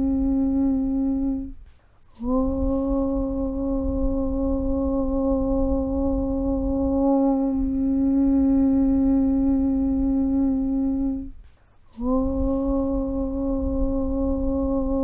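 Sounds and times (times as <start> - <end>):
hummed chant on low pitch: 0.0 - 15.0
low rumble: 0.0 - 15.0.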